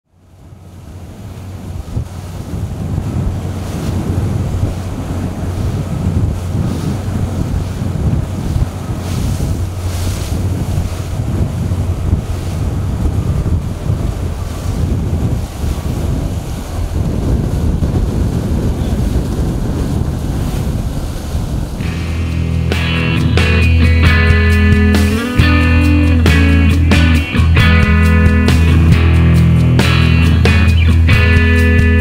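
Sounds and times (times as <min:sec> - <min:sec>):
waves splashing: 0:00.1 - 0:32.0
wind buffeting microphone: 0:00.2 - 0:32.0.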